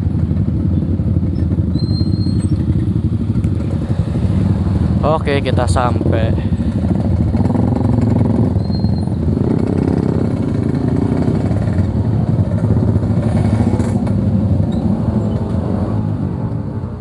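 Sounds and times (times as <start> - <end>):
two-stroke engine running at low revs: 0.0 - 17.0.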